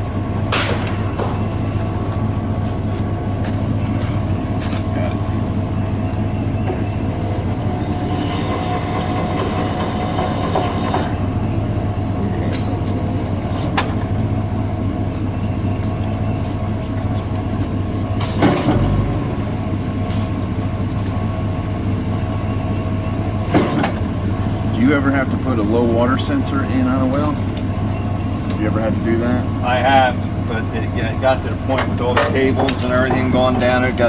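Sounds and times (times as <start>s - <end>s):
engine running with low hum: 0.0s - 34.0s.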